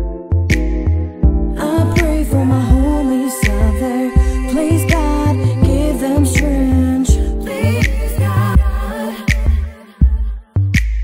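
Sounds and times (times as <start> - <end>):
heavy bass and drum hits: 0.5 - 11.0
person singing: 1.5 - 10.6.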